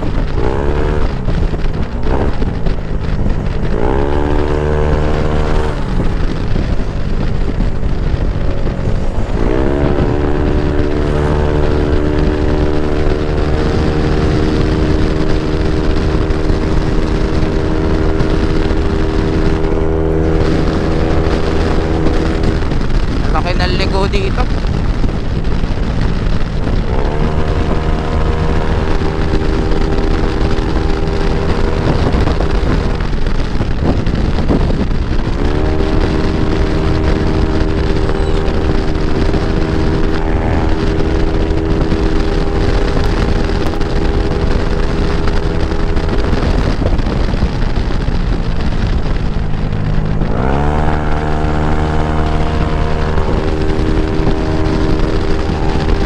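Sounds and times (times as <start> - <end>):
scooter engine running: 0.0 - 56.0
wind rush: 0.0 - 56.0.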